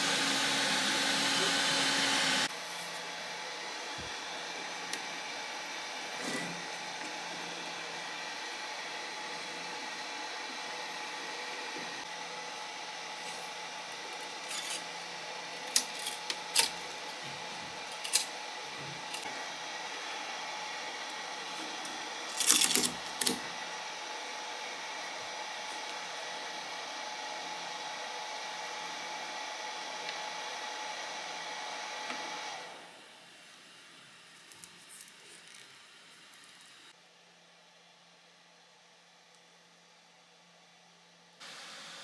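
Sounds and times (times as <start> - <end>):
printer fans and motors humming: 0.0 - 37.0.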